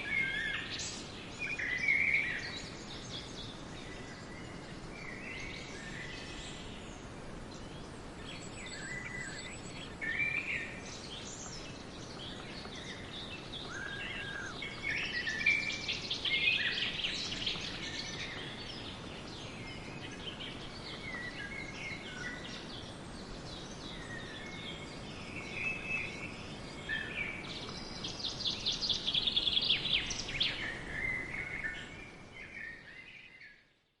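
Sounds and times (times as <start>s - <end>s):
birds chirping: 0.0s - 33.6s
outdoor background noise: 0.0s - 34.0s.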